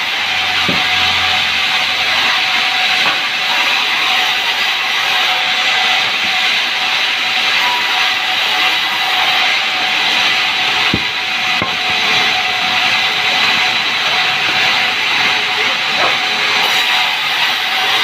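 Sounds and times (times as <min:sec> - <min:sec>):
saw cutting timber hissing: 0:00.0 - 0:18.0.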